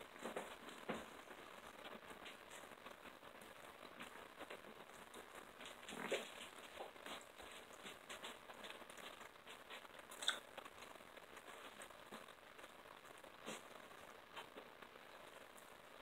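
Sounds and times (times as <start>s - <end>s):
chewing chicken on the bone: 1.8s - 15.8s.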